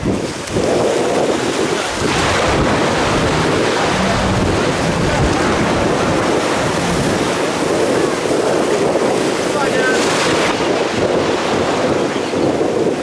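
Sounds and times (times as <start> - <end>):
jet ski engine: 0.0 - 13.0
sea water washing: 0.0 - 13.0
wind buffeting microphone: 0.0 - 13.0.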